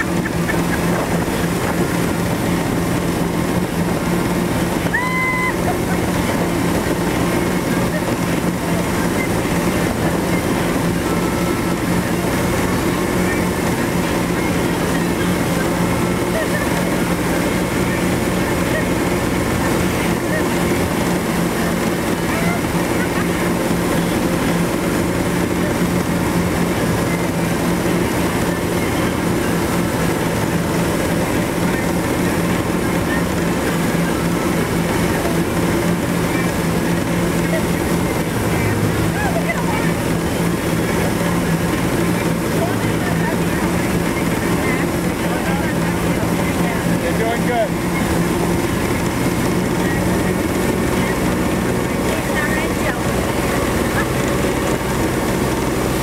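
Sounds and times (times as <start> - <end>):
churning wake water: 0.0 - 56.0
motorboat engine running: 0.0 - 56.0.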